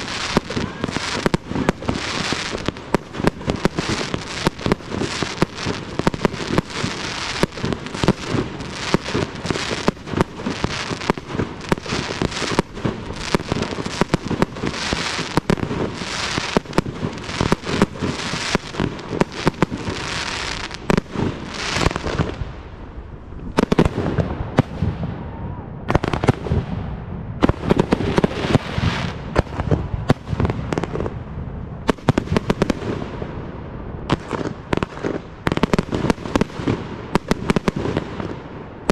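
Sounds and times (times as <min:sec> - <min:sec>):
deep firework booms: 0:00.0 - 0:38.9
firework bangs and crackling bursts: 0:00.0 - 0:38.9.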